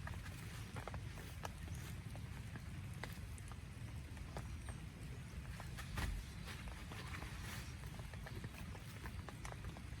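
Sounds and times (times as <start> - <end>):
raindrops tapping tent fabric: 0.0 - 10.0.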